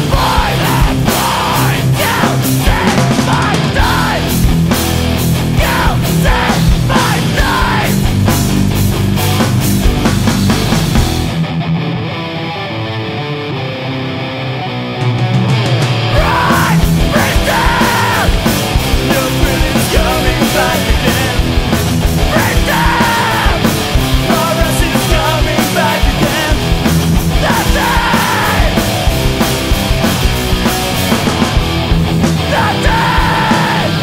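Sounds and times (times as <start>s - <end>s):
yelled vocals: 0.0s - 9.3s, 16.0s - 34.0s
electric guitar: 0.0s - 34.0s
punk band playing: 0.0s - 34.0s.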